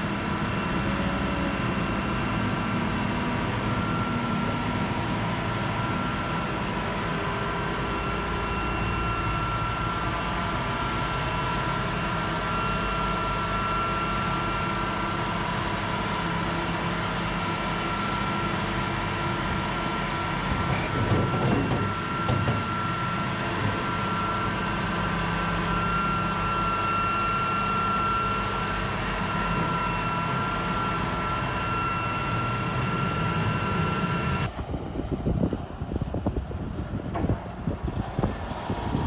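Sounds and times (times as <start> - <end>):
machinery humming and rumbling: 0.0 - 39.0
whining tones: 0.3 - 34.6.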